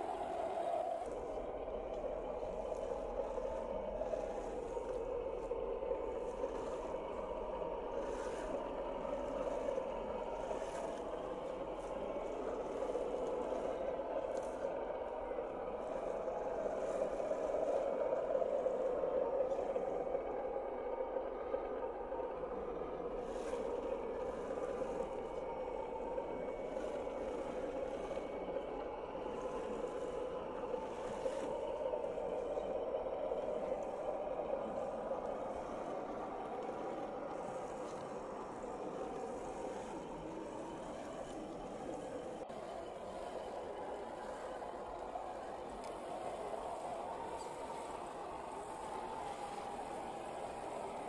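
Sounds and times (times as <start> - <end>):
tyres churning through mud: 0.0 - 51.0.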